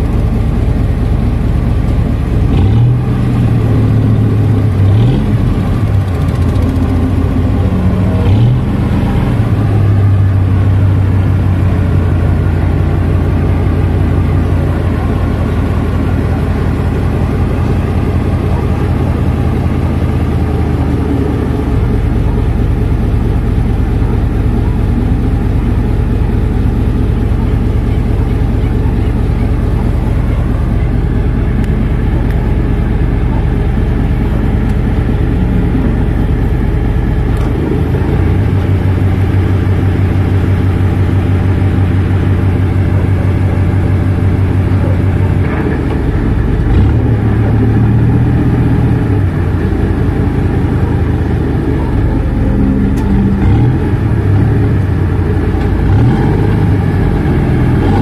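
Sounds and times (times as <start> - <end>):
boat engine running under load: 0.0 - 58.0.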